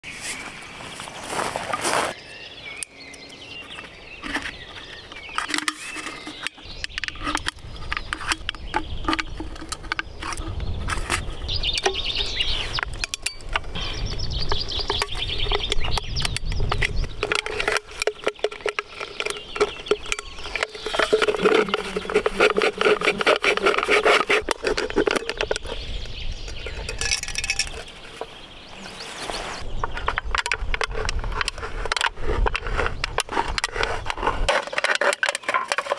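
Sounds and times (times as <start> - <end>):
awl scratching aluminium can: 3.6 - 35.9
metal scraping and creaking on can: 3.6 - 35.9.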